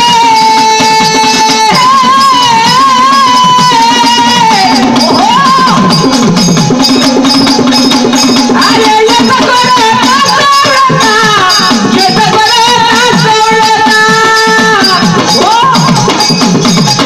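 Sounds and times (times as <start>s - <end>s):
men singing devotional song: 0.0s - 16.4s
folk percussion beat: 0.0s - 17.0s.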